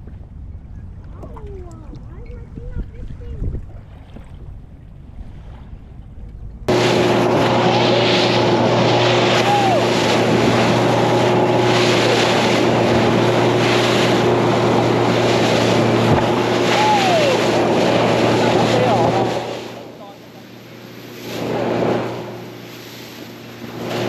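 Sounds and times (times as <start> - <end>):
wind on microphone: 0.0 - 19.8
outboard motor running: 0.0 - 24.0
water lapping: 0.0 - 24.0
water rushing past hull: 0.0 - 24.0.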